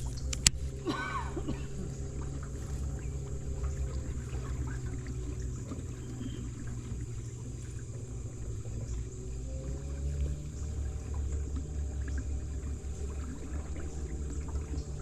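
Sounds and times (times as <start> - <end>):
steady low hum: 0.0 - 15.0
water lapping around a boat: 0.0 - 15.0.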